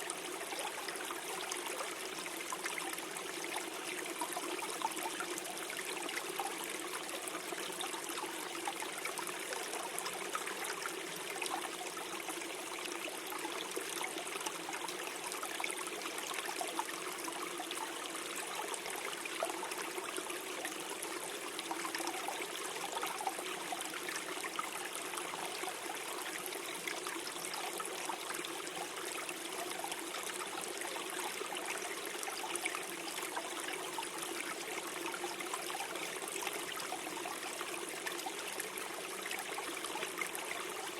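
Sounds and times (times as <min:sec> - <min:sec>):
stream gurgling over stones: 0:00.0 - 0:40.9.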